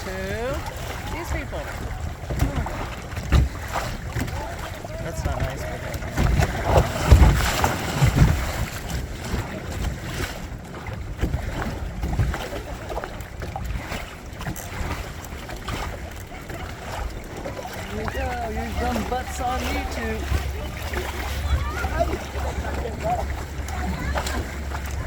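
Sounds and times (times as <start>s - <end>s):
water washing along hulls: 0.0s - 25.0s
wind buffeting microphone: 0.0s - 25.0s.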